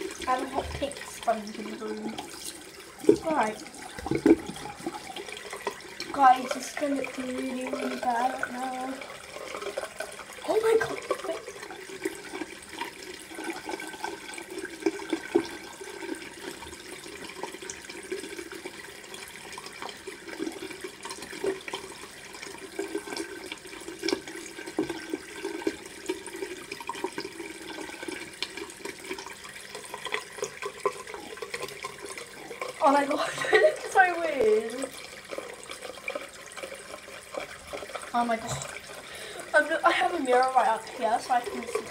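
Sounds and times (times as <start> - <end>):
water running from tap into sink: 0.0 - 41.9
water splashes and drips: 0.0 - 41.9.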